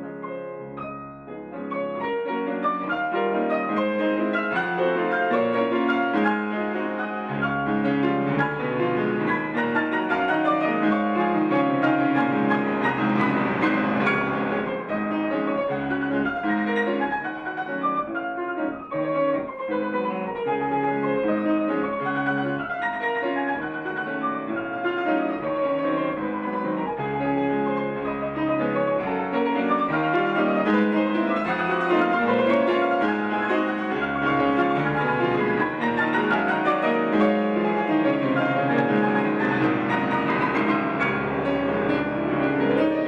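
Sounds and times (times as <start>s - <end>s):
solo grand piano classical piece: 0.0s - 43.0s.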